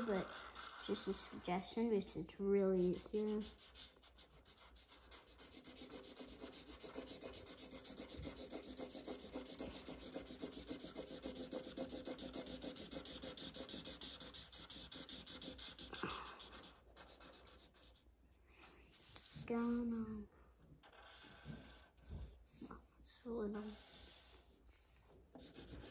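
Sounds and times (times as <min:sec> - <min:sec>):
marker scribbling on paper: 0:00.0 - 0:18.0, 0:18.6 - 0:20.2, 0:20.8 - 0:25.9.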